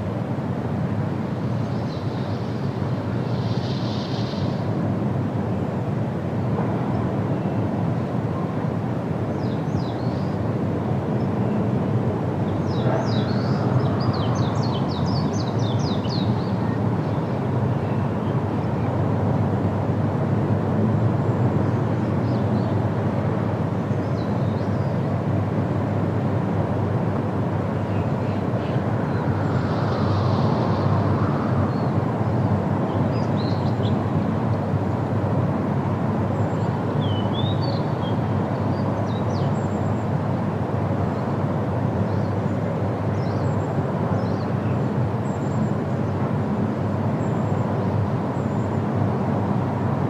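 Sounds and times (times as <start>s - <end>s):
wind rushing through leaves: 0.0s - 50.0s.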